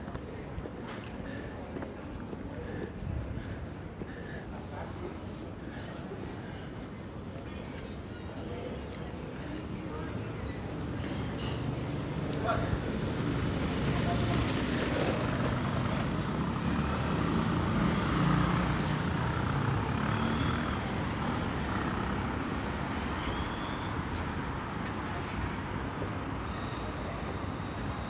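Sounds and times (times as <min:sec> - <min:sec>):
street traffic passing: 0:00.0 - 0:28.0.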